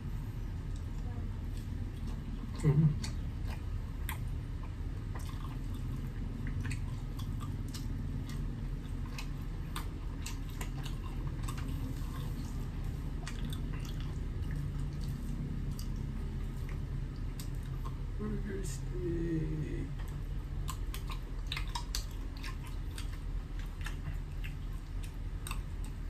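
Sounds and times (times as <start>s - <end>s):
low background hum: 0.0s - 26.0s
person chewing with wet smacks: 0.0s - 26.0s.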